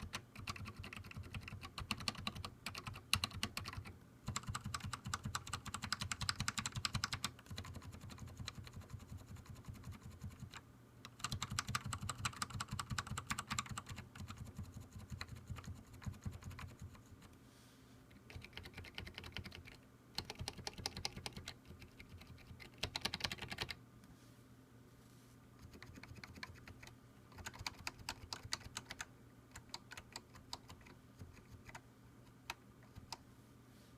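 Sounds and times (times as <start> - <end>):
keyboard keys clicking: 0.0 - 17.0, 18.2 - 23.8, 25.6 - 33.2.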